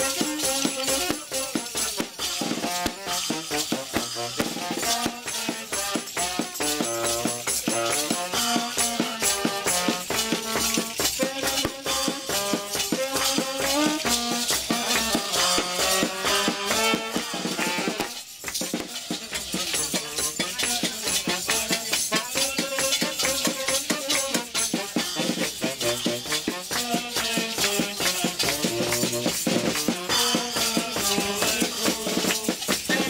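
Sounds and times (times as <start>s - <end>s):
small band playing: 0.0s - 33.0s
tambourine rhythm: 0.0s - 33.0s.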